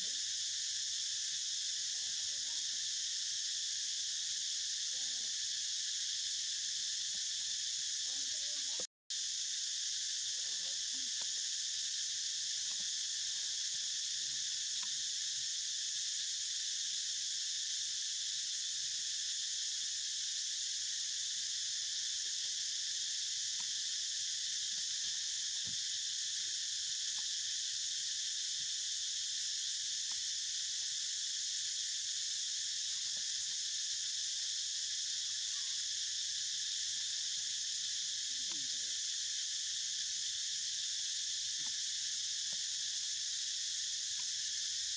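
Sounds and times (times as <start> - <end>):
high insect chorus: 0.0 - 44.9.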